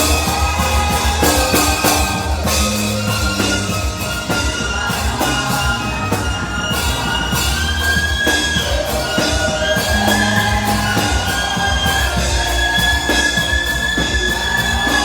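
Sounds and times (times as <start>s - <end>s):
drums and bass: 0.0s - 15.0s
saxophone melody: 0.0s - 15.0s.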